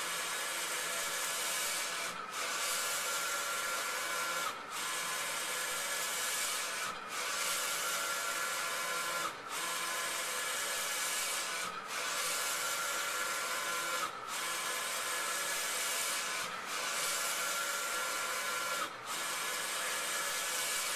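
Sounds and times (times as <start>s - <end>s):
printer carriage whirring: 1.6s - 20.9s.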